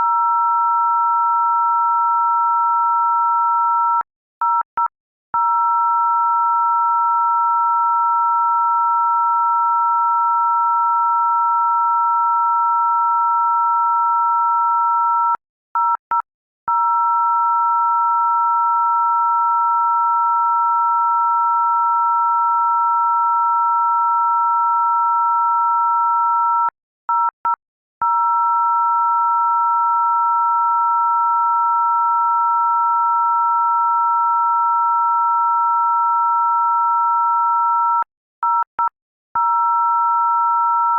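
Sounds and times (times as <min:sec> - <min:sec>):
electronic two-note dial tone: 0:00.0 - 0:40.9.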